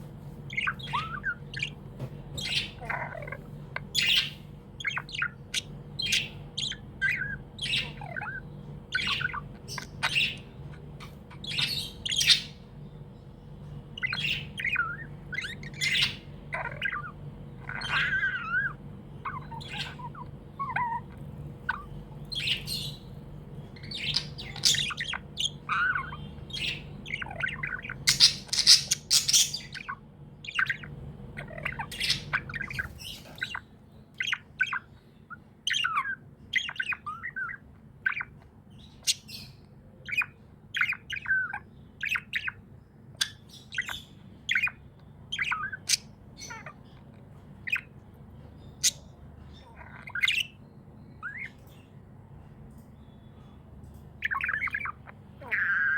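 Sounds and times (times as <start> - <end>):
budgerigars chirping and squawking: 0.0 - 55.9
faint low hum: 0.0 - 55.9.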